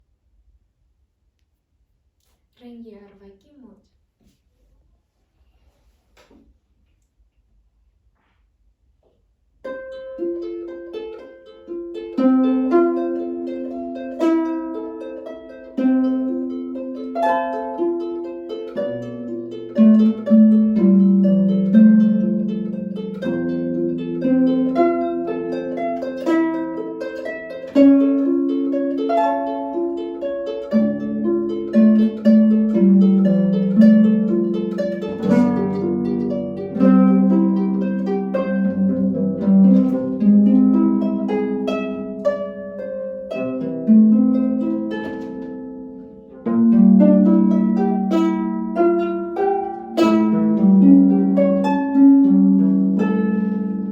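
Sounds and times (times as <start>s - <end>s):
harp playing: 9.6s - 53.9s.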